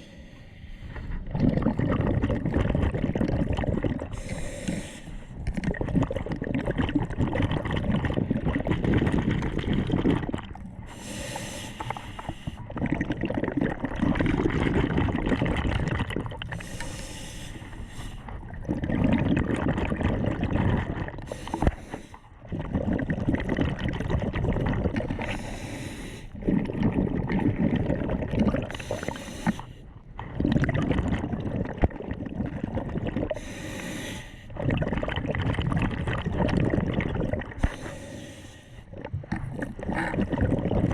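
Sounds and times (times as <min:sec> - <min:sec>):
diver breathing underwater: 0:00.0 - 0:03.2, 0:03.8 - 0:06.9, 0:08.0 - 0:23.5, 0:25.0 - 0:27.7, 0:28.4 - 0:31.2, 0:32.1 - 0:35.2, 0:36.7 - 0:40.9
water rushing and bubbling: 0:00.8 - 0:40.9.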